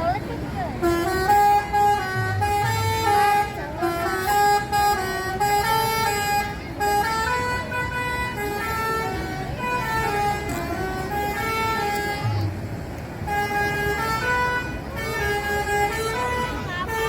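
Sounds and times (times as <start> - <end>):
low engine rumble: 0.0 - 17.0
multi-tone bus horn tune: 0.0 - 17.0.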